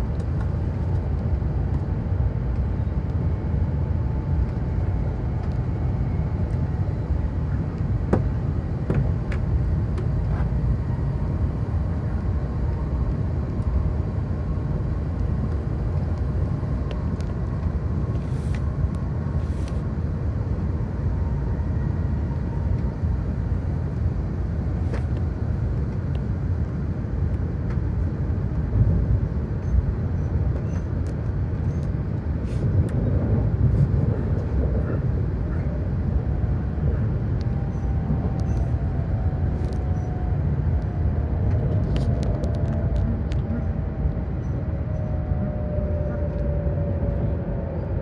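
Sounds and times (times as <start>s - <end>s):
train rumble inside carriage: 0.0s - 48.0s.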